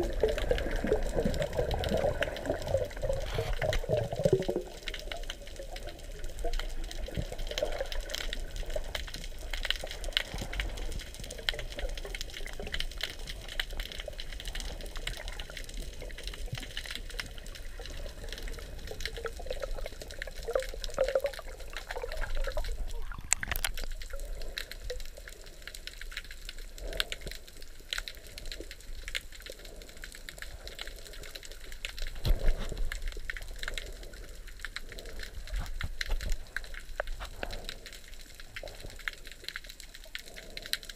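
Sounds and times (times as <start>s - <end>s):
muffled underwater water wash: 0.0s - 40.9s
small underwater clicks and crackles: 0.0s - 40.9s.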